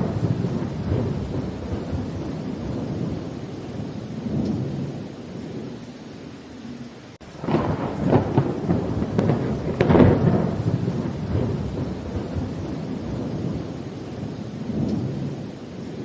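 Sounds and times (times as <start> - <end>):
thunder rumbling and crackling: 0.0 - 5.8, 7.2 - 16.0
steady rain: 0.0 - 16.0.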